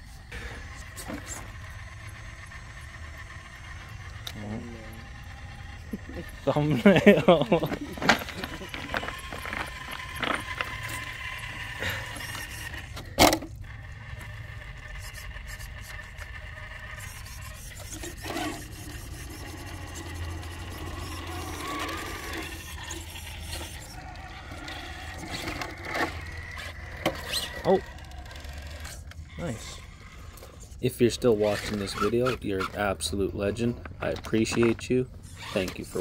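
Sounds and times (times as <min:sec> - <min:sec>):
electric drivetrain whining: 0:00.0 - 0:36.0
tyres scraping on rock: 0:05.1 - 0:13.1, 0:13.8 - 0:33.0, 0:33.6 - 0:36.0.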